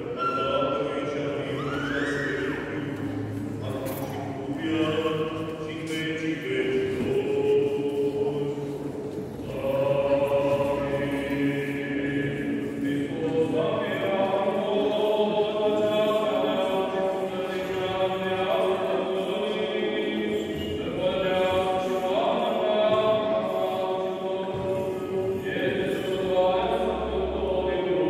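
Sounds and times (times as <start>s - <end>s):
unaccompanied liturgical chant: 0.0s - 28.0s.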